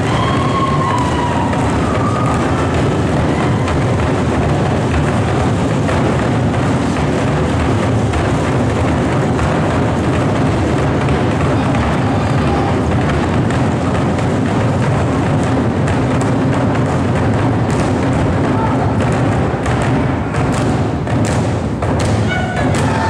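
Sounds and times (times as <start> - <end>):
large drums beaten fast: 0.0 - 23.0.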